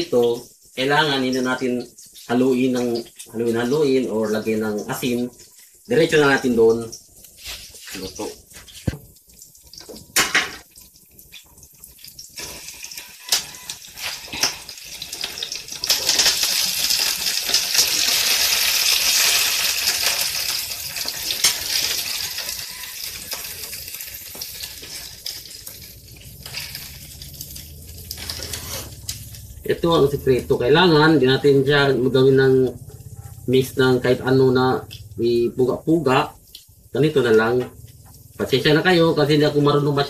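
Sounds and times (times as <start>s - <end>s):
vegetables sizzling in hot oil: 0.0s - 32.9s, 33.5s - 40.0s.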